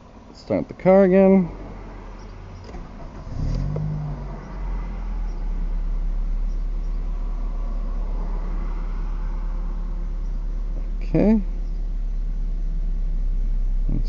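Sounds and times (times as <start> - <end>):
car engine starting and idling: 0.0 - 14.0.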